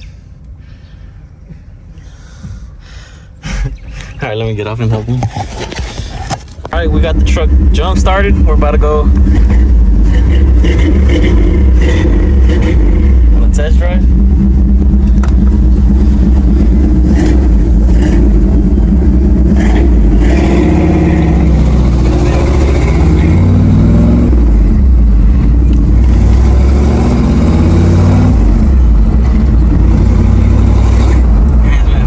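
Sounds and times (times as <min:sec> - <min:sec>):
pickup engine under load: 0:05.4 - 0:32.0.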